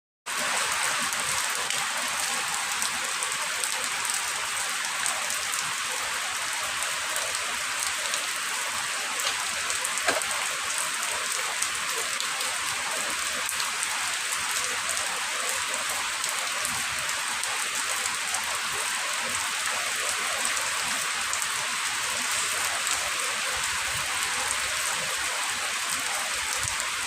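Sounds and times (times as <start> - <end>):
steady rain: 0.3 - 27.0.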